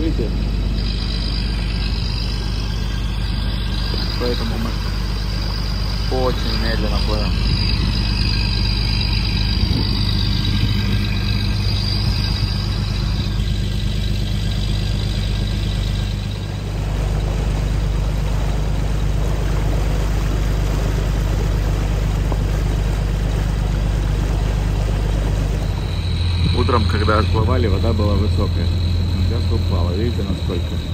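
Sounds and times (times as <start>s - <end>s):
boat engine droning: 0.0s - 30.9s
boat rattling: 0.0s - 30.9s.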